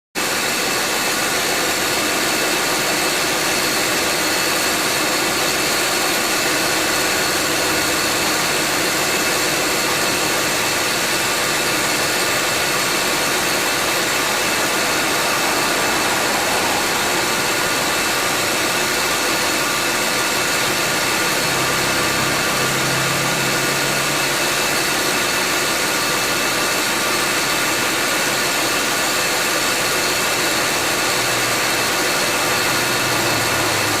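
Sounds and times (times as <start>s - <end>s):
car air conditioning compressor whine: 0.2s - 34.0s.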